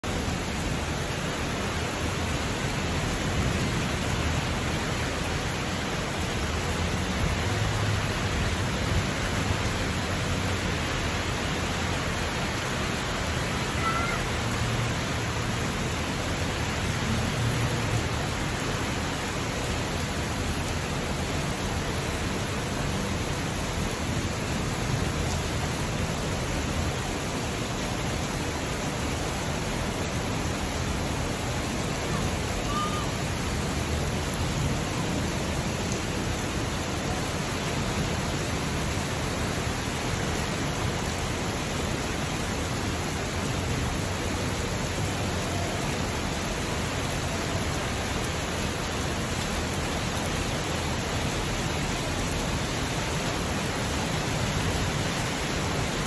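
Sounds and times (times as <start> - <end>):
heavy rain hiss: 0.0 - 56.0.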